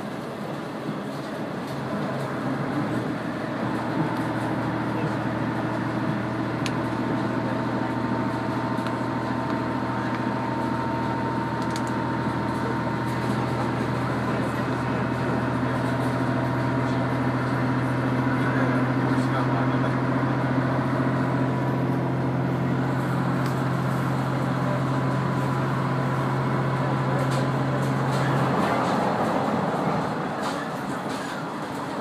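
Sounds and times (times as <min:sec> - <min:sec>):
railcar diesel engine humming: 0:00.0 - 0:32.0.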